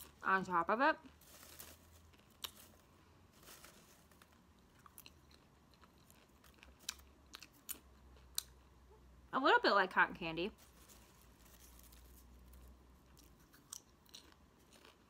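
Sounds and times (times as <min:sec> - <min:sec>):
popcorn chewing crunches: 0:00.0 - 0:08.8, 0:10.6 - 0:15.0.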